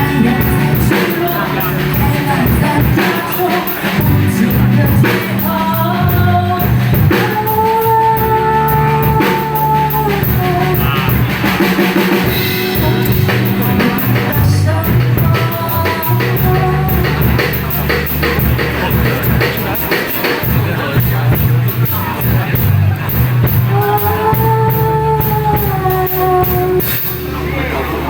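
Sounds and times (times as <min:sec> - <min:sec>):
person singing: 0:00.0 - 0:27.8
rock band playing: 0:00.0 - 0:28.0.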